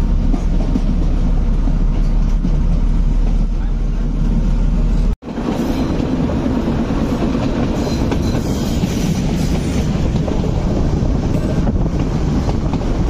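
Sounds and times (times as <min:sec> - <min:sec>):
train wheels clattering on track: 0:00.0 - 0:13.0.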